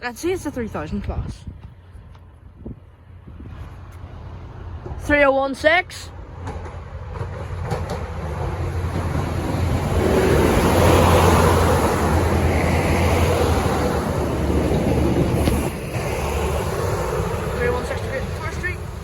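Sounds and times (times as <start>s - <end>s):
train passing: 2.2s - 19.0s.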